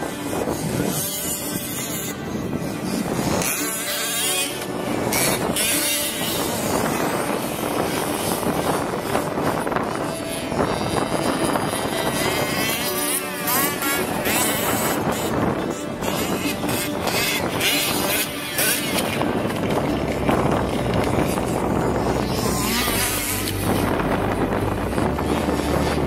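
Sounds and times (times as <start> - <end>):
small two-stroke engines buzzing: 0.0 - 26.0.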